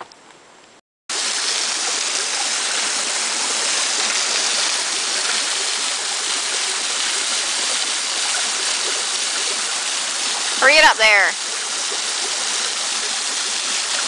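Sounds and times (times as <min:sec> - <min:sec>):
waterfall rushing onto boulders: 0:01.1 - 0:14.0.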